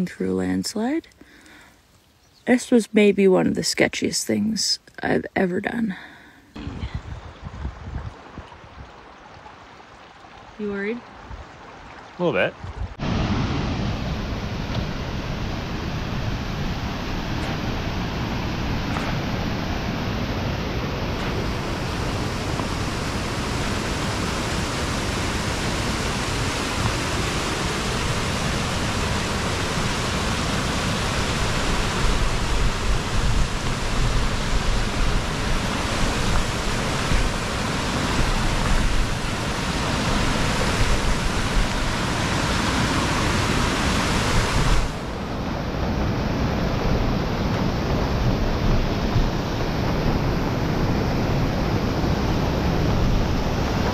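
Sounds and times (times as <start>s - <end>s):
wind rushing over microphone: 6.6s - 9.0s, 12.6s - 53.9s
low rumbling wind buffets: 6.6s - 9.8s, 12.6s - 53.9s.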